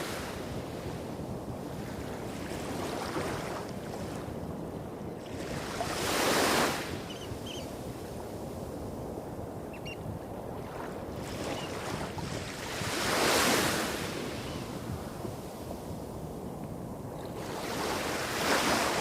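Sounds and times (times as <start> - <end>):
small waves breaking on shore: 0.0 - 16.2, 17.0 - 19.0.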